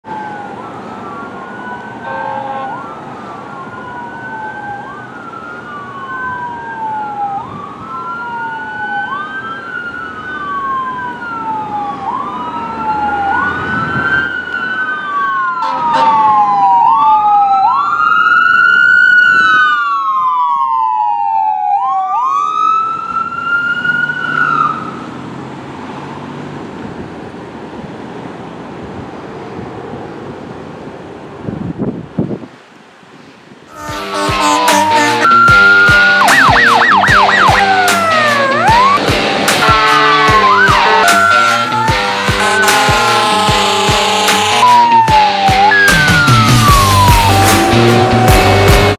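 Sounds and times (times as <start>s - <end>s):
fire engine siren wailing: 0.0s - 25.8s, 33.7s - 48.9s
engine and traffic noise: 0.0s - 48.9s.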